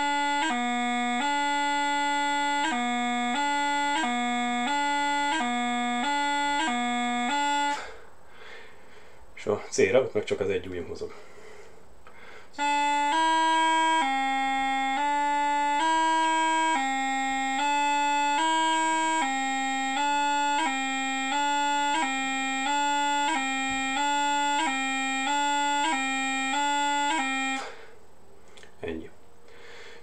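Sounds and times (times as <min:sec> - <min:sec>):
bagpipe practice chanter: 0:00.0 - 0:09.1, 0:11.1 - 0:28.0.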